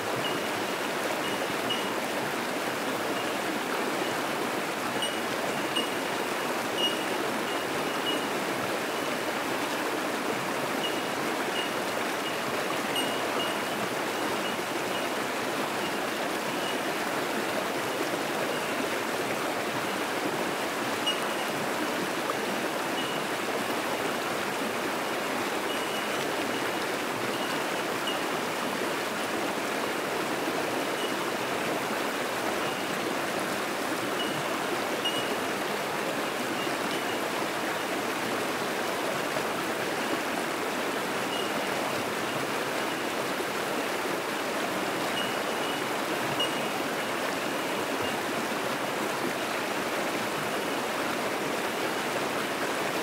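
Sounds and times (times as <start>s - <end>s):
creek rushing over rocks: 0.0s - 53.0s.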